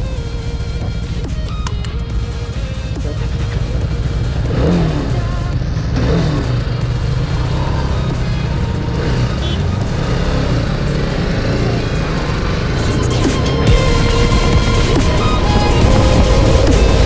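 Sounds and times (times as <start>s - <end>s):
background music: 0.0s - 17.0s
motorcycle engine running: 0.0s - 17.0s.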